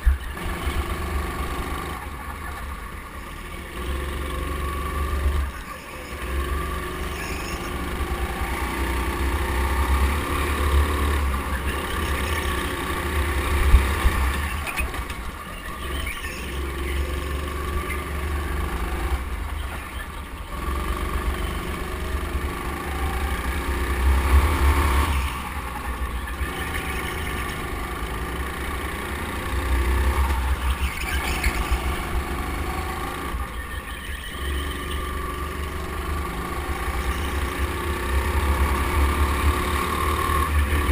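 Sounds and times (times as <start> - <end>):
go-kart motor racing: 0.0 - 40.9.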